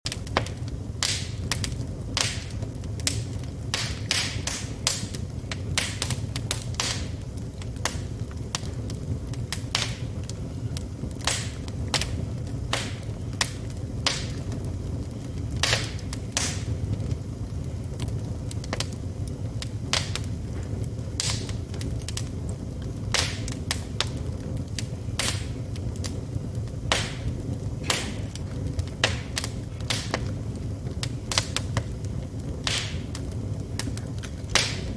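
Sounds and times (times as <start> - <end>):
low fire rumble: 0.0 - 34.9
wood fire crackling and popping: 0.0 - 34.9.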